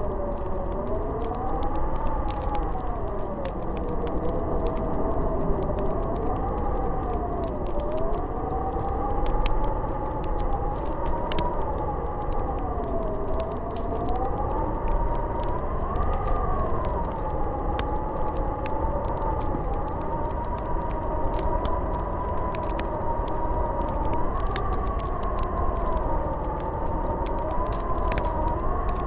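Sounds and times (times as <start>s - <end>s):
wind howling and whistling: 0.0s - 29.0s.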